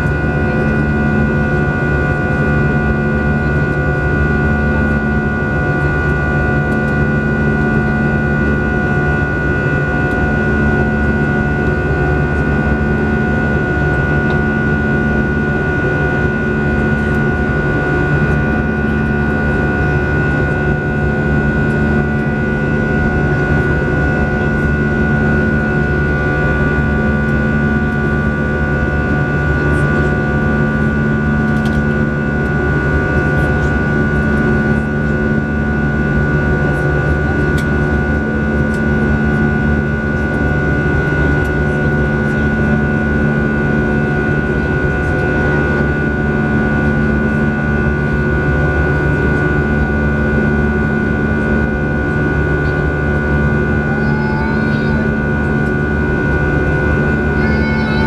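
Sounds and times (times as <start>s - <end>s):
high even whine: 0.0s - 58.0s
jet engine drone: 0.0s - 58.0s.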